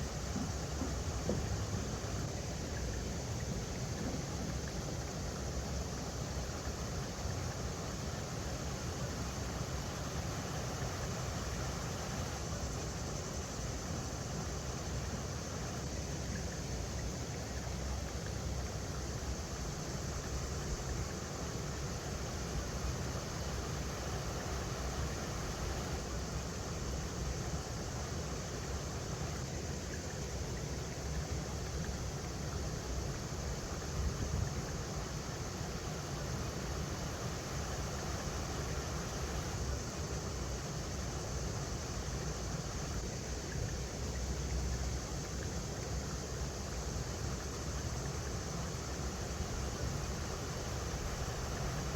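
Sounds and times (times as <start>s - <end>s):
river water over rocks: 0.0s - 51.9s.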